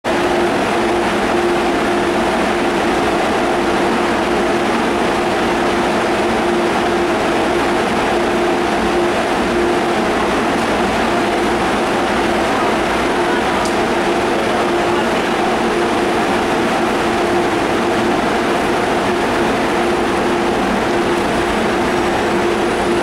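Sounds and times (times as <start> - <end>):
train equipment hum and rushing: 0.1 - 23.0.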